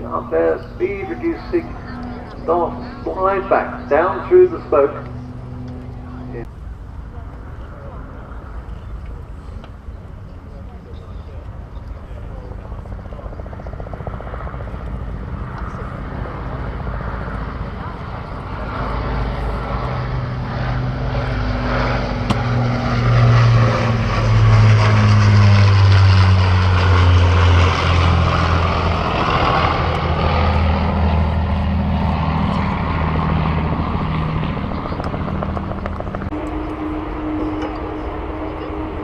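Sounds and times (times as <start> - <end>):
propeller plane engine passing: 0.0 - 39.0.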